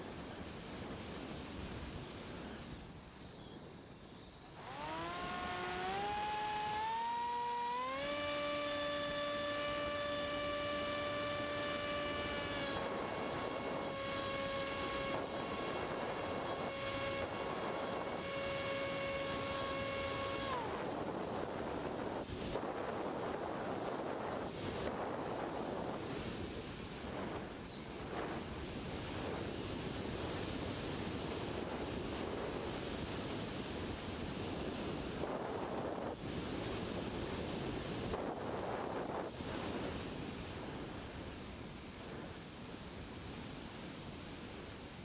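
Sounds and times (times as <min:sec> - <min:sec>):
electric motor and propeller whine: 0:04.4 - 0:41.2
wind rushing over microphone: 0:04.5 - 0:45.0.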